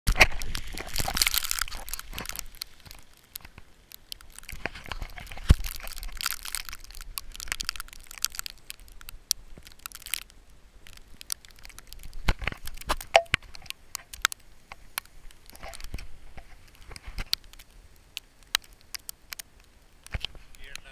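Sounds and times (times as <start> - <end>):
crunching in snow: 0.1 - 20.9.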